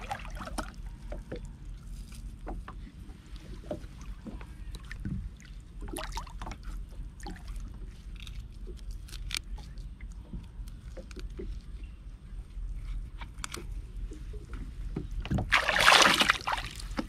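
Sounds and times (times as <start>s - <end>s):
water sloshing and splashing: 0.0s - 11.7s, 15.0s - 17.0s
steady low rumble: 0.0s - 17.0s.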